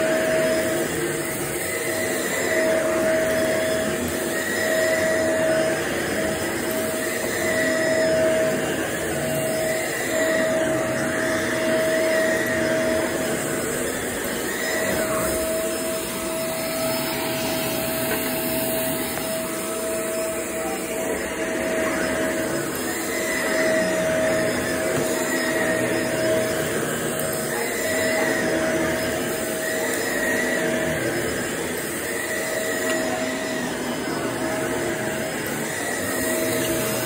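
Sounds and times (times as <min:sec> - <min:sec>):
motor whine: 0:00.0 - 0:37.0
vacuum cleaner running: 0:00.0 - 0:37.0.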